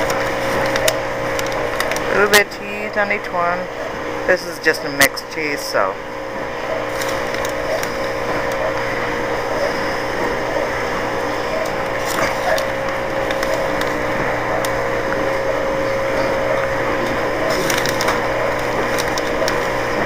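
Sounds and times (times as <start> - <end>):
mechanical fan hum: 0.0 - 20.0.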